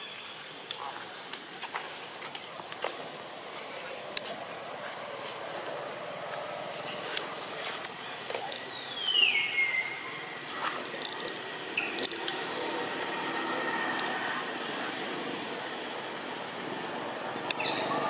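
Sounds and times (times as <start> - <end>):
background hiss: 0.0 - 18.0.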